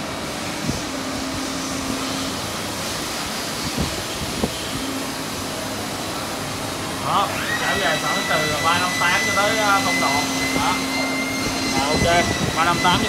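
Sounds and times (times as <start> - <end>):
machining center humming: 0.0 - 13.0.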